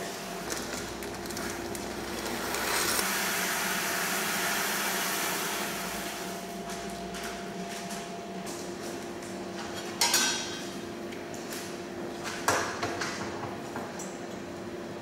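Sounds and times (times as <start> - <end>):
electric machine hum: 0.0 - 12.4.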